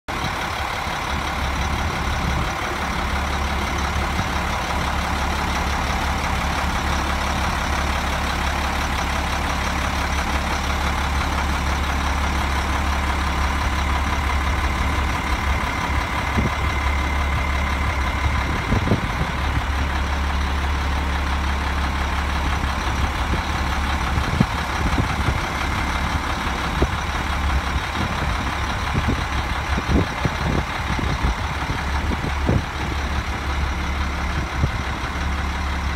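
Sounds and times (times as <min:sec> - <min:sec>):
diesel engine idling: 0:00.1 - 0:35.9.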